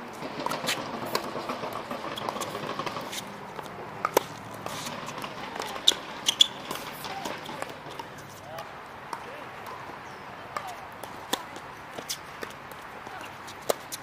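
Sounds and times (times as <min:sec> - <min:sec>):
tennis ball hits: 0:00.3 - 0:09.9, 0:10.5 - 0:13.9.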